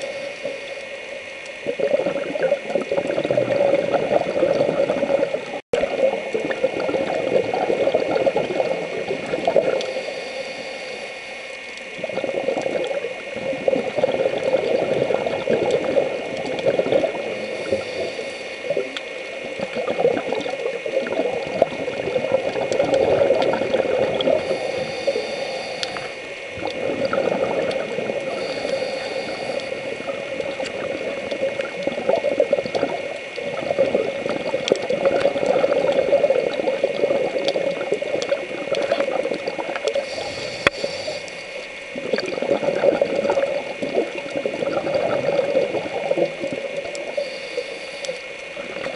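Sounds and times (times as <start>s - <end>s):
bubbles rushing and gurgling: 0.0s - 10.1s, 11.8s - 47.3s, 48.3s - 48.9s
diver breathing underwater: 6.8s - 48.9s.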